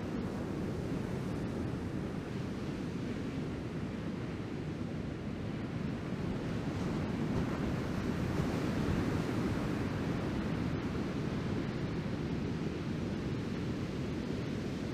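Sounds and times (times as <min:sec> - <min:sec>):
wind rumbling on microphone: 0:00.0 - 0:14.9.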